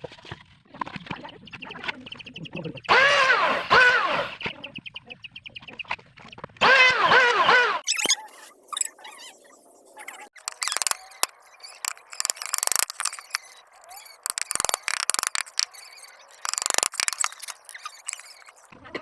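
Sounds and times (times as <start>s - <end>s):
lovebirds squeaking: 1.1s - 18.7s.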